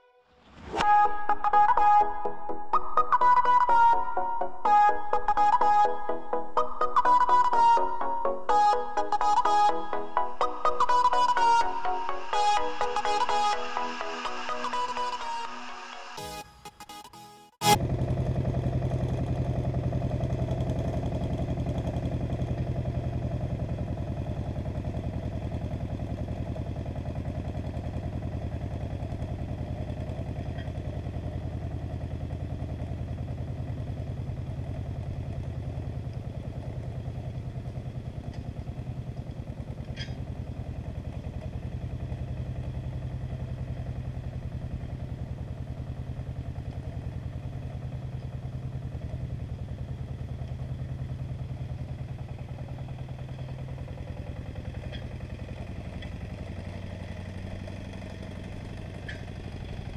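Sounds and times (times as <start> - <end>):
tractor diesel engine running: 0.0 - 16.4, 17.6 - 59.9.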